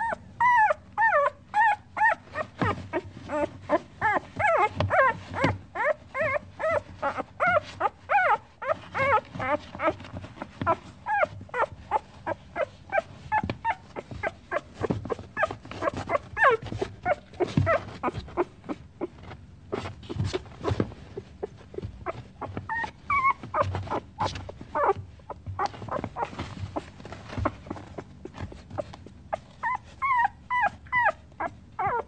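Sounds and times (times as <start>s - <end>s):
dog whining and whimpering: 0.0s - 32.0s.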